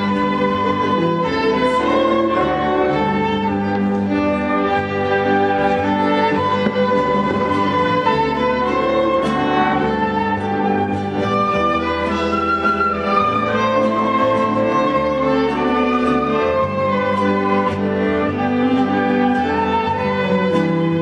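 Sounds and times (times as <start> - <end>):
string ensemble playing: 0.0 - 21.0.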